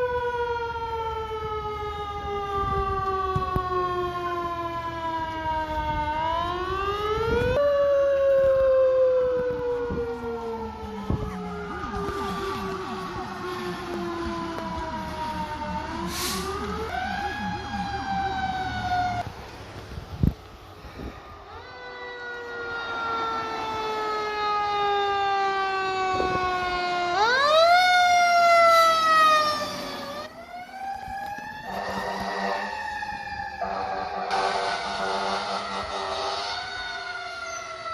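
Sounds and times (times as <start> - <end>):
fire engine siren wailing and yelping: 0.0 - 37.9.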